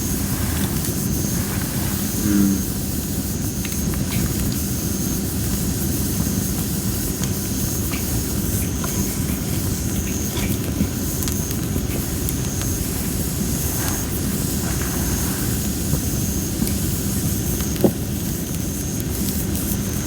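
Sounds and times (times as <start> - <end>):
campfire crackling: 0.0 - 2.2, 2.8 - 20.0.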